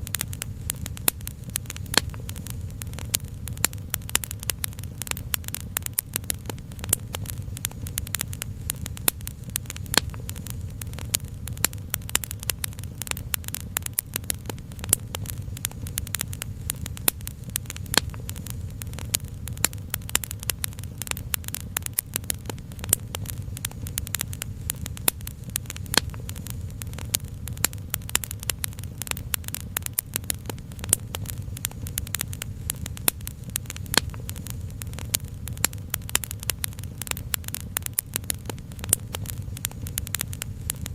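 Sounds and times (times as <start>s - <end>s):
steady low rumble: 0.0s - 40.9s
wood fire crackling: 0.0s - 40.9s.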